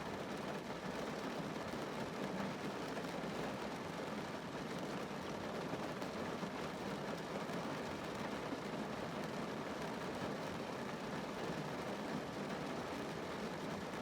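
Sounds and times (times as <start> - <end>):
rain drumming on a car roof: 0.0 - 14.0.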